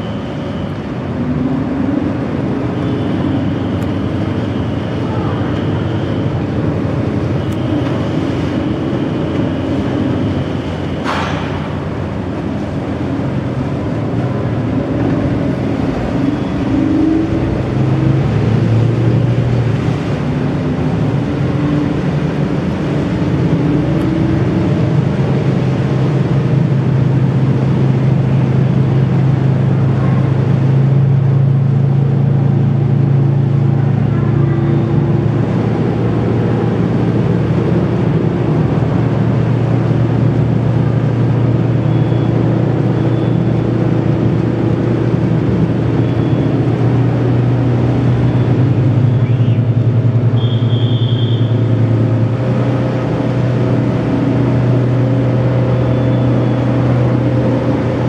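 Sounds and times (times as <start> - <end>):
ferry diesel engines droning: 0.0 - 58.0.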